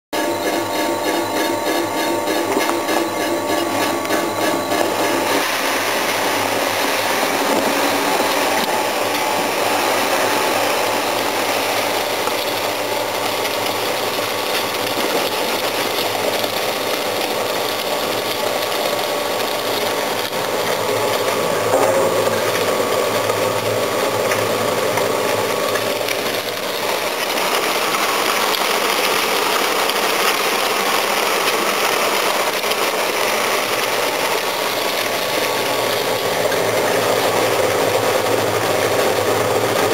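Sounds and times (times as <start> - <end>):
screw conveyor running: 0.1 - 39.9.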